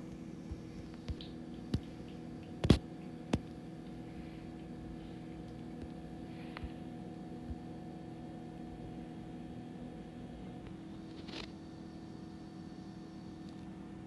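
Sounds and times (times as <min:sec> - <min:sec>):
steady low hum with tones: 0:00.0 - 0:14.0.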